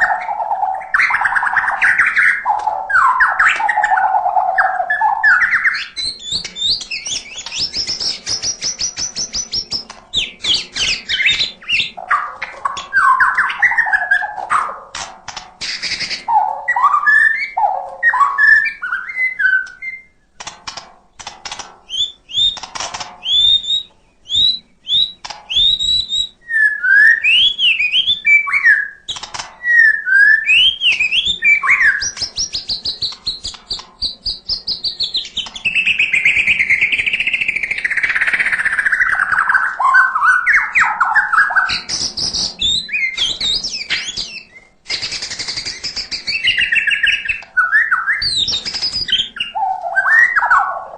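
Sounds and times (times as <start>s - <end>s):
songbird singing varied song: 0.0s - 14.9s, 15.6s - 20.4s, 21.8s - 50.9s.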